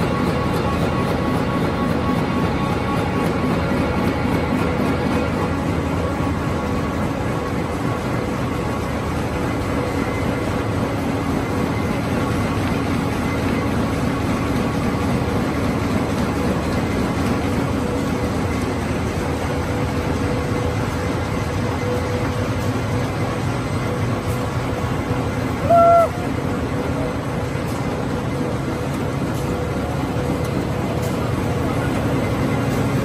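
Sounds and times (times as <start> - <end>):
machinery rumbling: 0.0 - 33.0.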